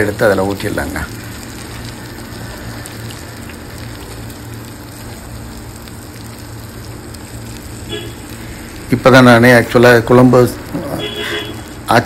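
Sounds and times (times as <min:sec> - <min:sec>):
steady low hum: 0:00.0 - 0:12.0
vegetables sizzling: 0:00.0 - 0:12.0.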